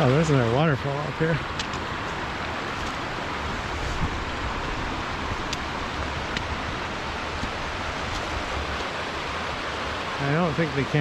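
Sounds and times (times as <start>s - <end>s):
creek and waterfall rushing: 0.0s - 11.0s.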